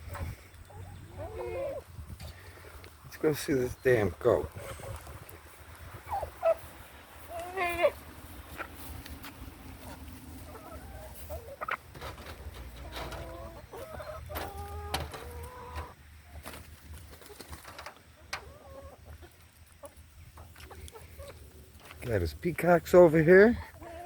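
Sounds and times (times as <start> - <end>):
chickens clucking and squawking: 0.0 - 24.0.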